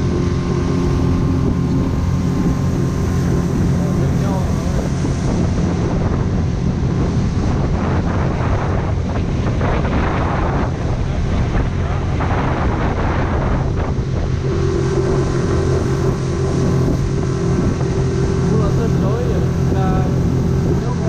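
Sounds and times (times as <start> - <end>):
boat motor running: 0.0 - 21.0
water rushing along hull: 0.0 - 21.0
wind buffeting microphone: 0.0 - 21.0.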